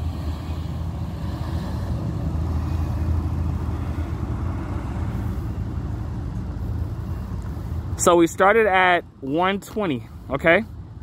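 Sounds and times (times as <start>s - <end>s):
low rumble of road traffic: 0.0s - 11.0s.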